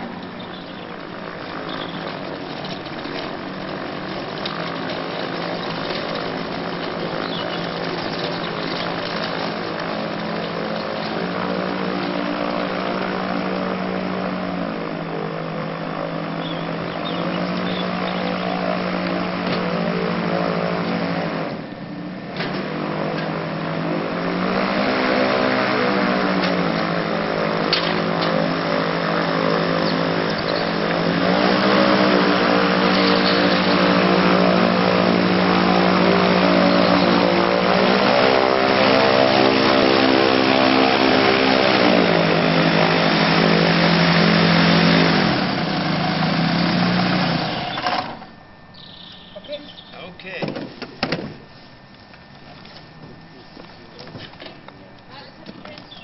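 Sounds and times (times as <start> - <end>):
gyrocopter engine and propeller drone: 0.0 - 56.0.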